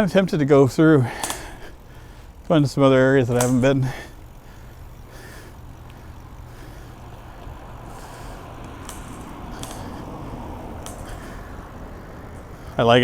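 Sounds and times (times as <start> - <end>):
bicycle tyres rumbling: 0.0 - 13.0
bike clicks: 0.0 - 13.0.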